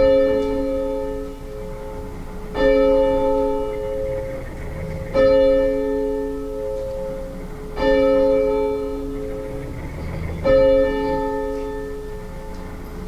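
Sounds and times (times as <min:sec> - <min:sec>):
church bell tolling: 0:00.0 - 0:09.5, 0:10.3 - 0:12.8.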